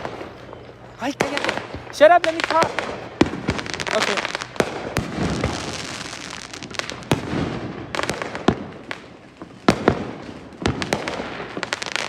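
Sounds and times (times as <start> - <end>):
distant fireworks crackle: 0.0 - 12.0
fireworks bangs and pops: 0.0 - 12.0.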